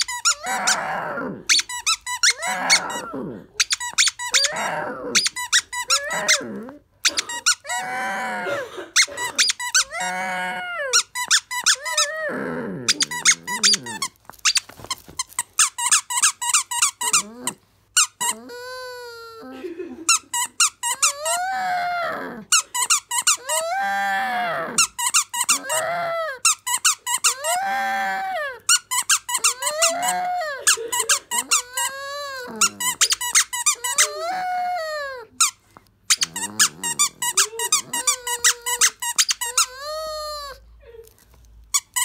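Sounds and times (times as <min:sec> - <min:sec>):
squeaky toy squeaking: 0:00.0 - 0:00.8, 0:01.5 - 0:03.0, 0:03.6 - 0:06.4, 0:07.0 - 0:07.8, 0:09.0 - 0:10.2, 0:10.8 - 0:12.2, 0:12.9 - 0:19.4, 0:20.1 - 0:21.7, 0:22.5 - 0:23.9, 0:24.8 - 0:27.9, 0:28.7 - 0:40.6, 0:41.7 - 0:42.0.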